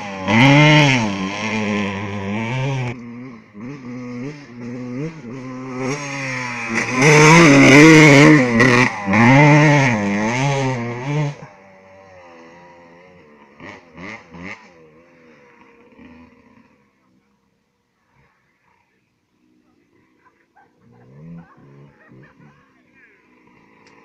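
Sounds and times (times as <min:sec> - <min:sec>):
dirt bike engine revving: 0:00.0 - 0:19.0, 0:20.8 - 0:24.0.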